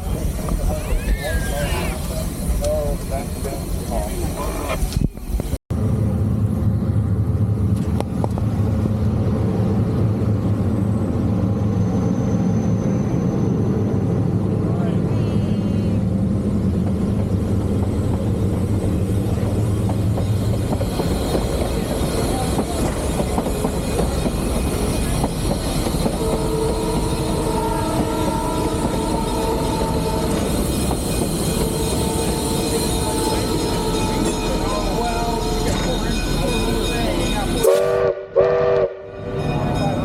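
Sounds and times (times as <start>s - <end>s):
steam locomotive rumble and clatter: 0.0s - 40.0s.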